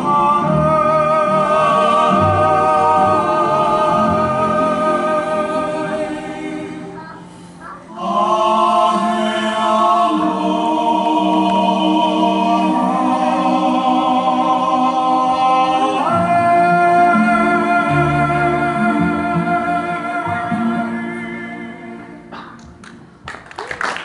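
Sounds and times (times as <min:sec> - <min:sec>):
person singing long held notes: 0:00.0 - 0:22.2.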